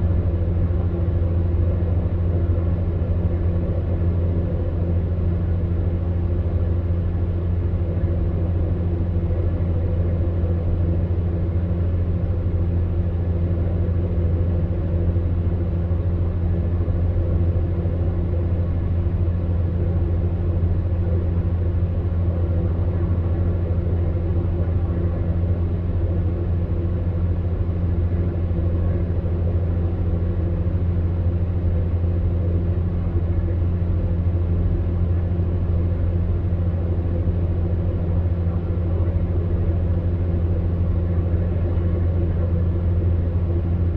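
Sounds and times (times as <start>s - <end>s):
fan heater humming: 0.0s - 43.9s.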